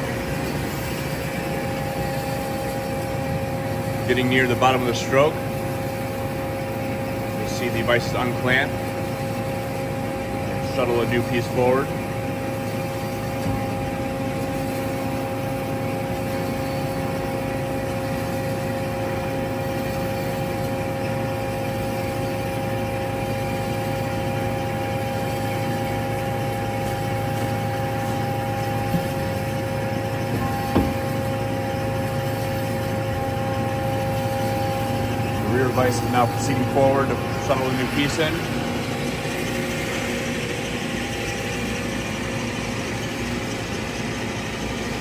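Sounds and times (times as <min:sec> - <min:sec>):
band saw humming and whining: 0:00.0 - 0:45.0.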